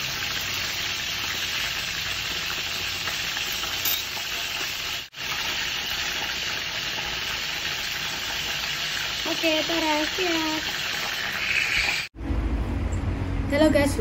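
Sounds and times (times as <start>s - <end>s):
pot of soup cooking hissing: 0.0s - 12.2s.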